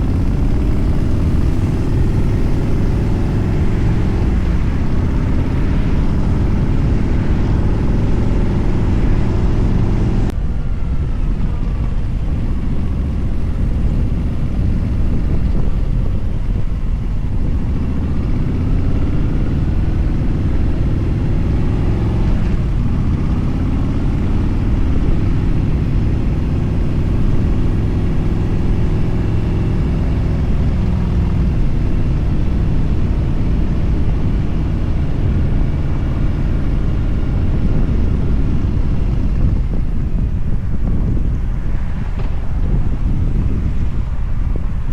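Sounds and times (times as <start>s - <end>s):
motorcycle engine: 0.0s - 44.9s
wind rumble on microphone: 0.0s - 44.9s.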